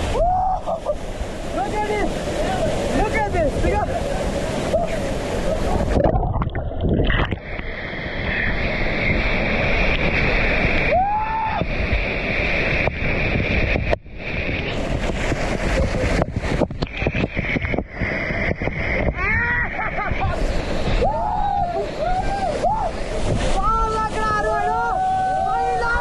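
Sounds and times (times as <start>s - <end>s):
waterfall rushing: 0.0s - 26.0s
wind buffeting microphone: 0.0s - 26.0s.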